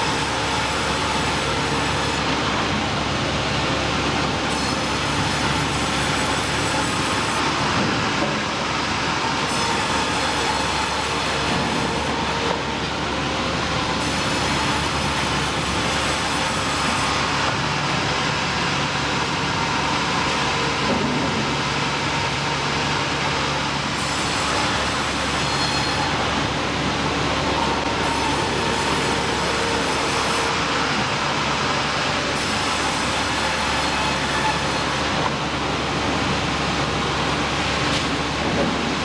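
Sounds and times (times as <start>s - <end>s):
industrial machinery noise: 0.0s - 39.0s.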